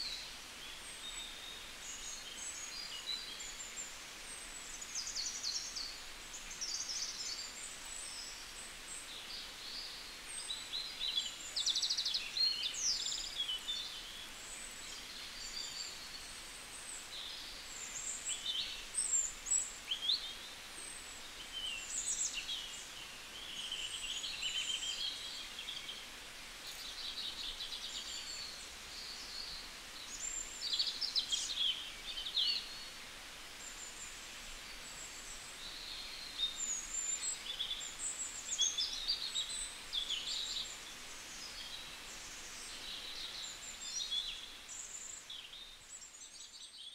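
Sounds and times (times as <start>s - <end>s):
faint steady hiss: 0.0s - 46.9s
small birds chirping: 0.0s - 46.9s.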